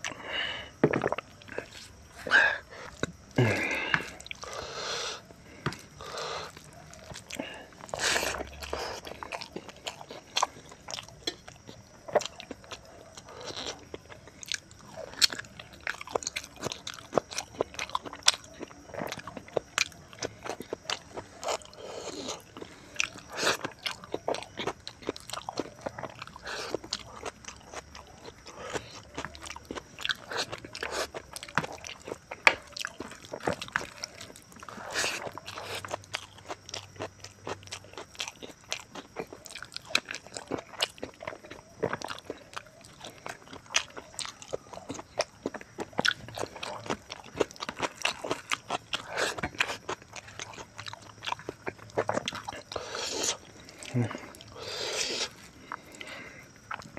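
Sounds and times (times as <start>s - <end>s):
man chewing food: 0.0s - 56.9s.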